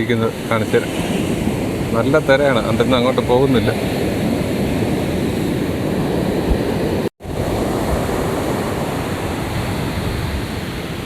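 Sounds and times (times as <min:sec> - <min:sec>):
sea surf washing onto beach: 0:00.0 - 0:11.0.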